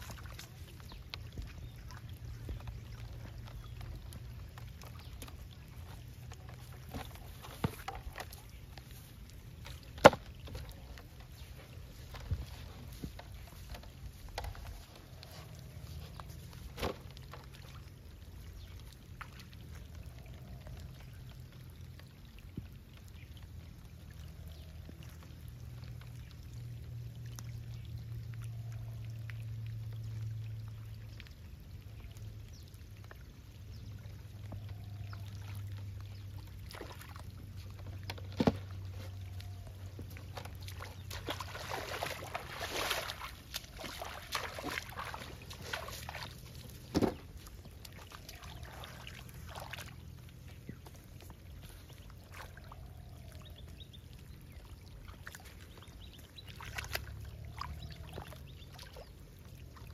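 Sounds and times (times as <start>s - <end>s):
low steady hum: 0.0s - 59.9s
river water splashing: 0.0s - 59.9s.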